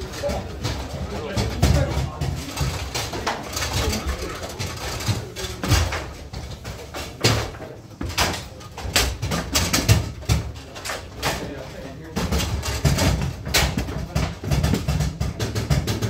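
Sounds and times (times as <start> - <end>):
background foosball clatter: 0.0 - 16.0.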